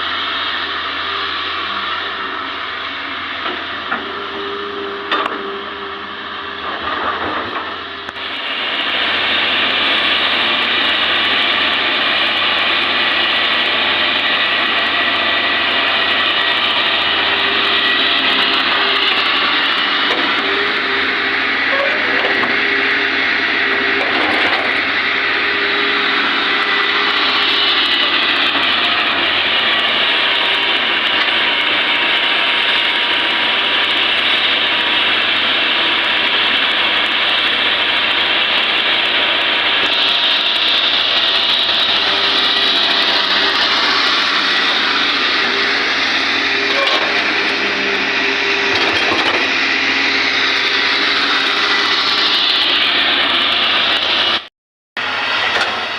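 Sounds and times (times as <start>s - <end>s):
excavator engine and hydraulics: 0.0s - 55.9s.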